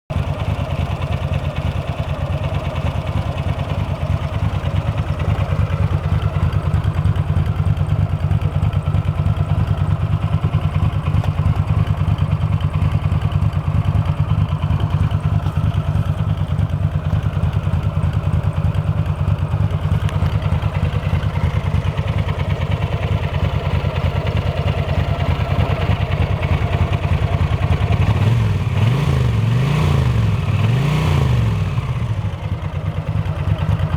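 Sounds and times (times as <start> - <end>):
motorcycle engine idling: 0.1 - 33.9
motorcycle throttle blips: 0.2 - 33.9.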